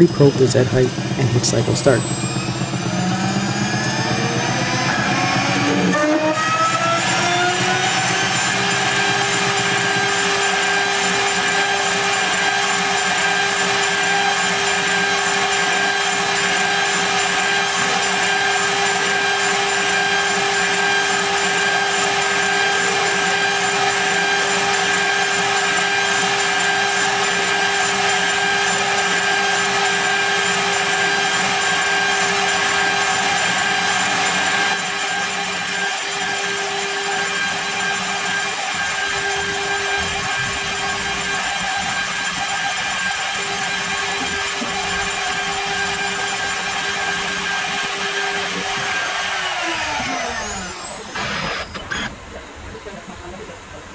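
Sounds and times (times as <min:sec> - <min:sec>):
end mill cutting aluminium: 0:00.0 - 0:53.8
mill spindle whining: 0:00.0 - 0:53.9.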